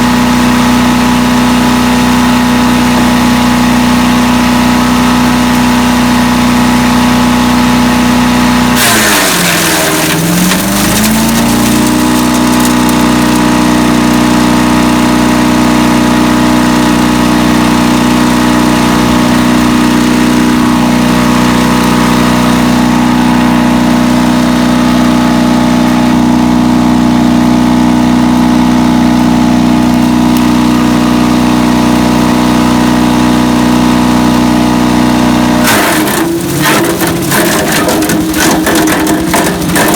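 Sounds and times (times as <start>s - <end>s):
wood chipper engine running: 0.0s - 39.9s
wood chipper grinding: 0.0s - 39.9s.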